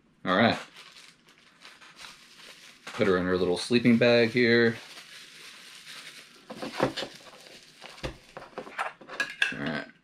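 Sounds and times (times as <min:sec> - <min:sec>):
plastic bag crinkling: 0:00.6 - 0:08.8.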